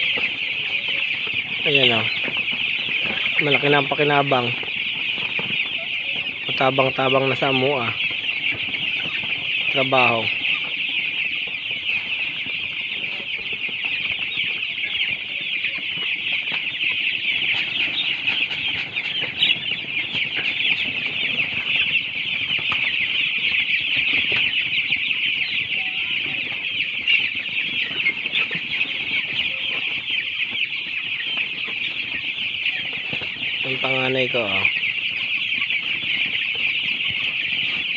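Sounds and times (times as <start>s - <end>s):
chicks peeping: 0.0s - 37.9s.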